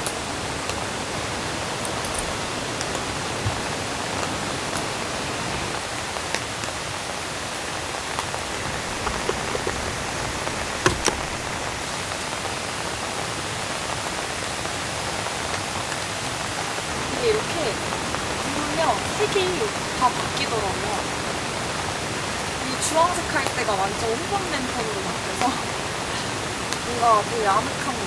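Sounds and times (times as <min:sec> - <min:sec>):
rain falling on a tent: 0:00.0 - 0:28.0.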